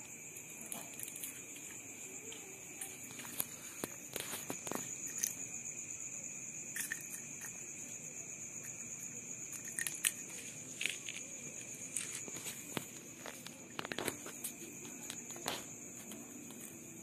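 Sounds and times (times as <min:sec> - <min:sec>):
night insects trilling: 0:00.0 - 0:17.0.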